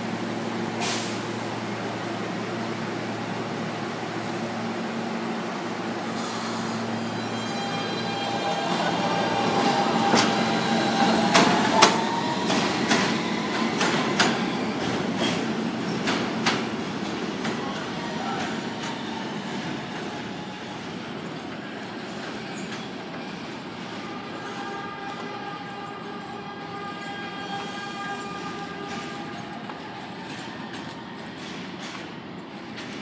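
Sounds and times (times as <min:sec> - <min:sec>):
subway train motors whining: 0:00.0 - 0:33.0.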